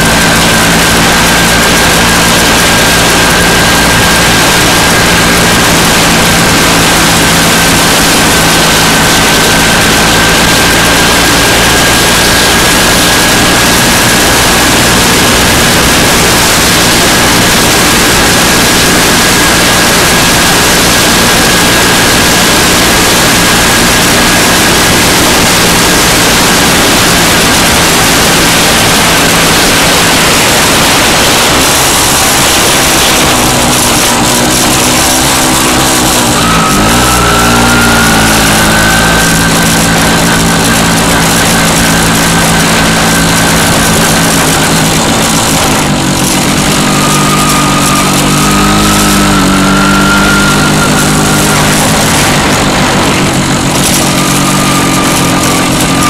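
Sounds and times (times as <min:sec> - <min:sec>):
motorcycle engine drone: 0:00.0 - 0:56.0.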